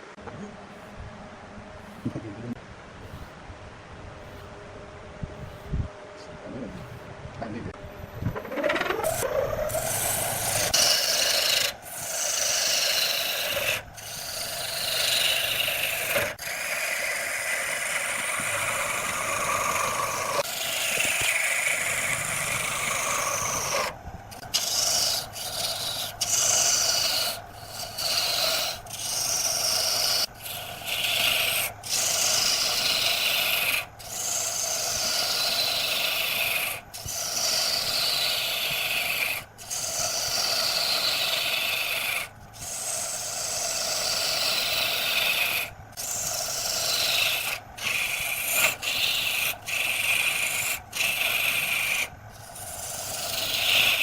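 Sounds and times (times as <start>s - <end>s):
lathe tool scraping wood: 8.3s - 54.0s.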